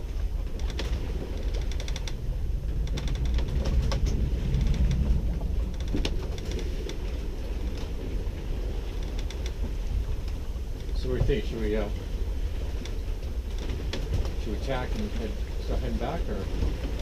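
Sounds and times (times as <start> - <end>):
wind rumble on microphone: 0.0 - 17.0
sailboat hardware creaking and clicking: 0.1 - 17.0.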